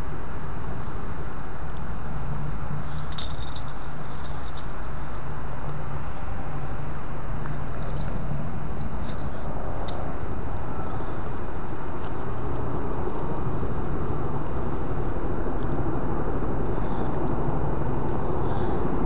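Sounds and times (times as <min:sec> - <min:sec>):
outdoor background rumble and hiss: 0:00.0 - 0:19.0.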